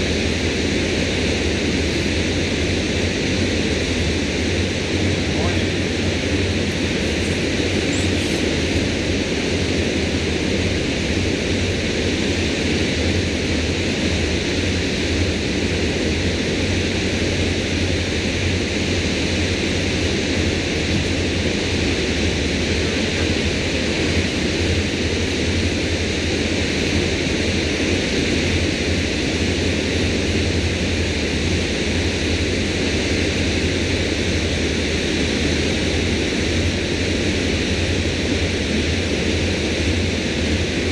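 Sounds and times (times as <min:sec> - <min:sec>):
low hum: 0:00.0 - 0:40.9.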